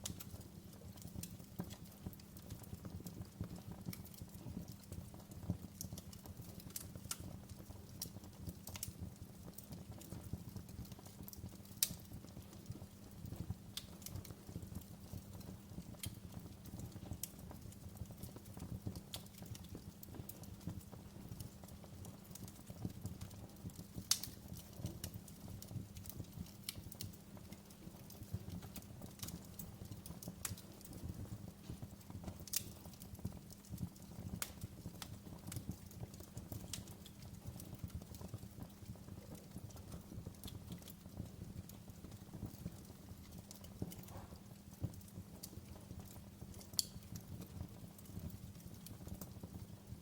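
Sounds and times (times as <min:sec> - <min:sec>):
low rumble of fire: 0:00.0 - 0:50.0
wood fire crackling and snapping: 0:00.0 - 0:50.0.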